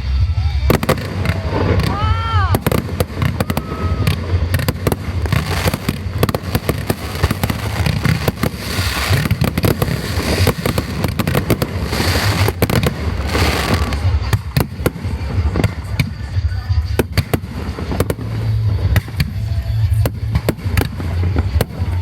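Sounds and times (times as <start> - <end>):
fireworks crackling: 0.0 - 22.0
fireworks bangs: 0.6 - 22.0.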